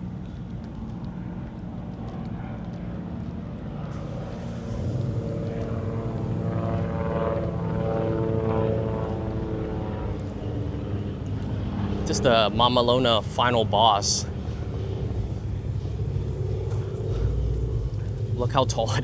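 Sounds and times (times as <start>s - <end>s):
engine drone passing by: 0.0s - 19.0s.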